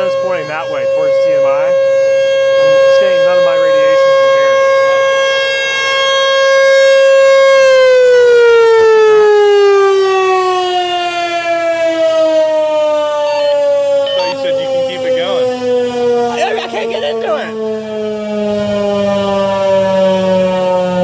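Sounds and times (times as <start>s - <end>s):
warning siren winding down: 0.0s - 21.0s.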